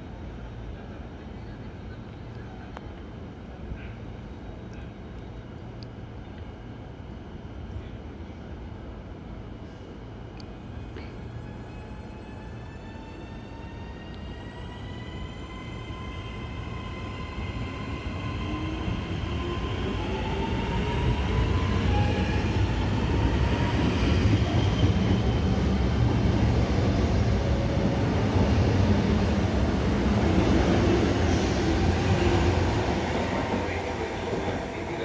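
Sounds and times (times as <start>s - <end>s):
train moving along track: 0.0s - 35.0s.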